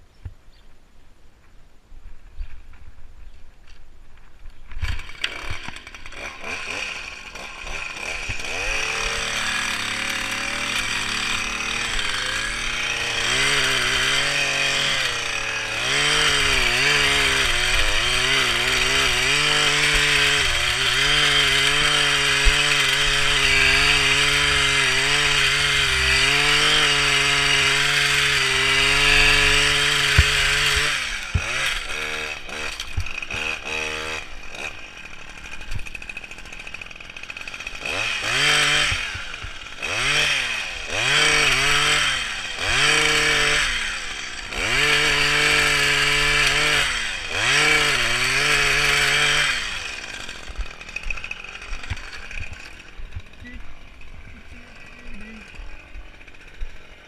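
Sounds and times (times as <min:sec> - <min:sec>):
hedge trimmer engine revving: 0:04.8 - 0:57.0.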